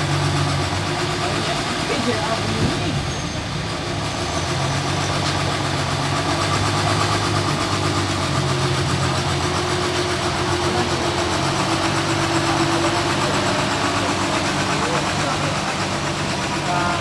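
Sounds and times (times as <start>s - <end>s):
forklift diesel engine running: 0.0s - 17.0s.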